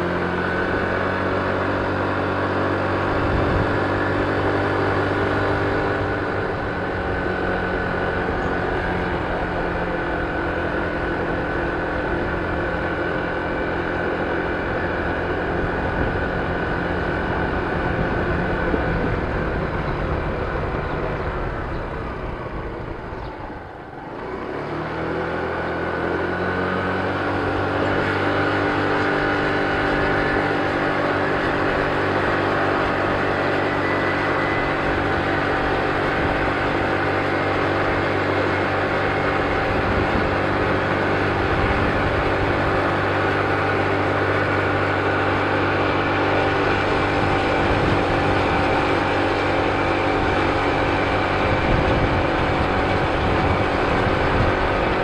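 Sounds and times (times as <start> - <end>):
scooter engine: 0.0 - 55.0.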